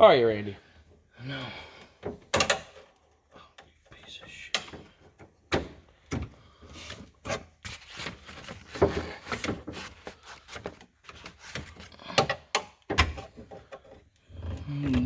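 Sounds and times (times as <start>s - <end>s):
tools clicking and scraping in door: 1.7s - 15.0s.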